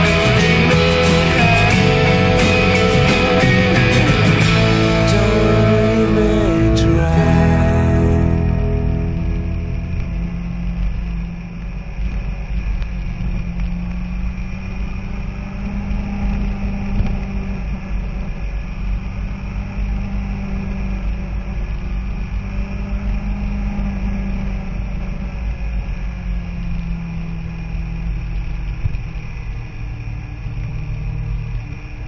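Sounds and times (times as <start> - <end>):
motorcycle engine running: 0.0 - 32.0
wind rumble on microphone: 0.0 - 32.0.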